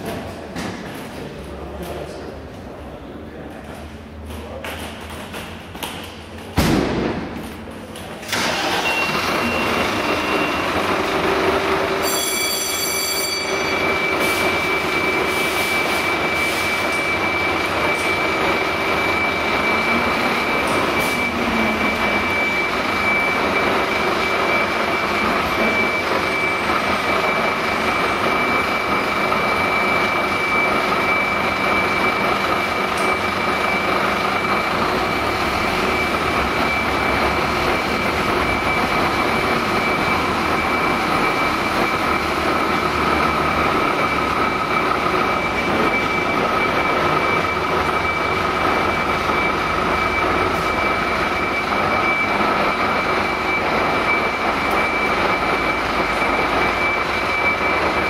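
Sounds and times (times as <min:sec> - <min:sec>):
diesel engine starting and running: 0:00.0 - 0:12.3, 0:13.4 - 0:58.0
thin high tone: 0:11.5 - 0:58.0.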